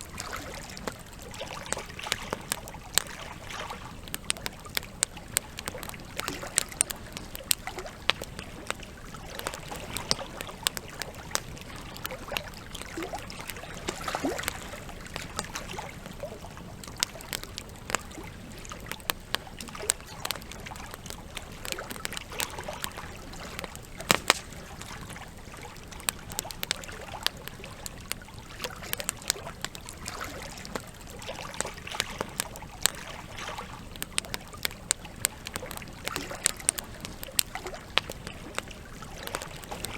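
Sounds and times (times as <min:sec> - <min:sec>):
campfire crackling and popping: 0:00.0 - 0:39.9
trickling water: 0:00.0 - 0:39.9.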